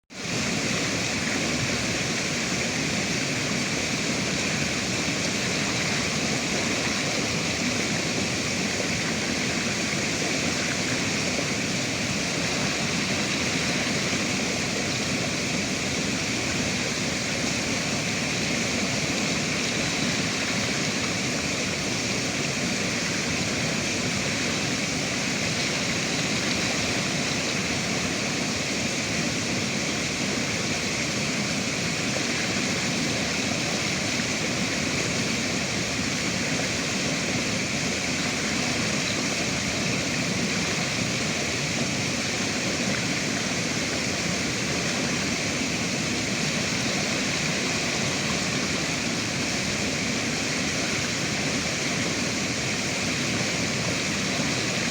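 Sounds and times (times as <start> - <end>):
river water rushing: 0.1 - 54.9.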